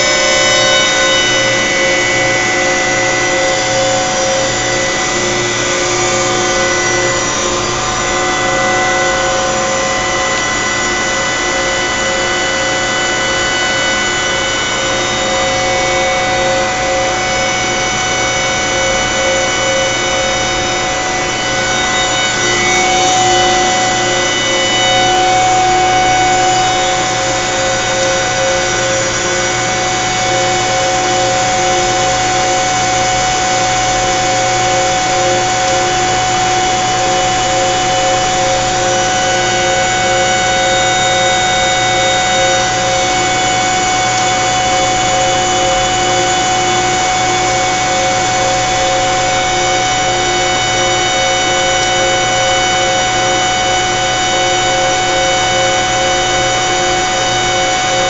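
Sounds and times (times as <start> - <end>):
compressor whine and hum: 0.0 - 58.0.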